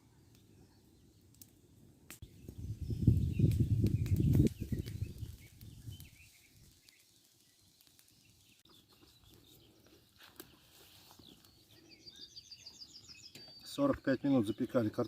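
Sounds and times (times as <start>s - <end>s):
faint bird chirps: 2.3s - 15.0s.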